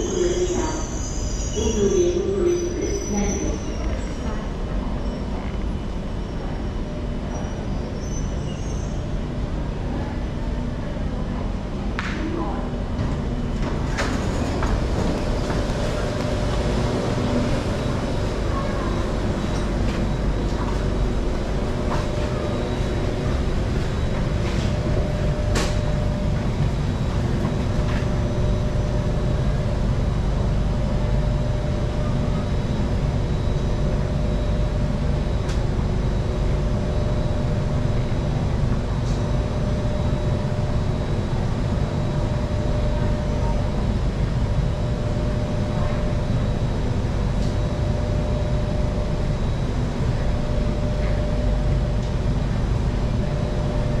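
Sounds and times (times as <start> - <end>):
train rumbling at speed: 0.0 - 54.0.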